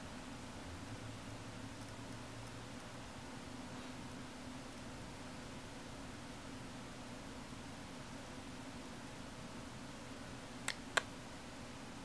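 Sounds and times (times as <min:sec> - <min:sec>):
faint hiss with low hum: 0:00.0 - 0:12.0.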